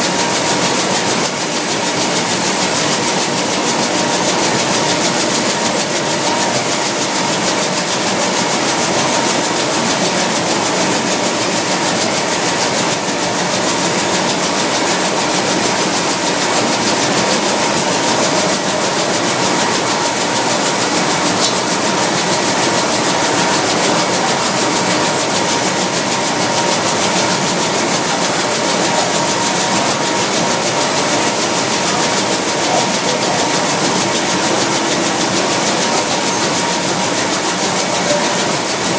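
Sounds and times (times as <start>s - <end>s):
nut roasting machine running: 0.0s - 38.9s.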